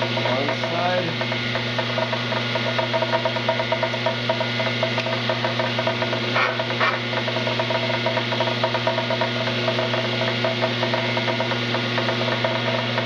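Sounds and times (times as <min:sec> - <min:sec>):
tile cutter motor hum: 0:00.0 - 0:13.0.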